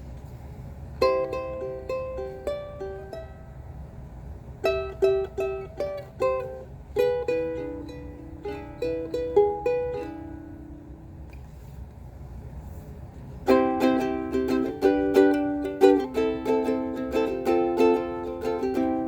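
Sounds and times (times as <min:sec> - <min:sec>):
ukulele picked notes: 0:00.9 - 0:11.6, 0:13.4 - 0:19.0.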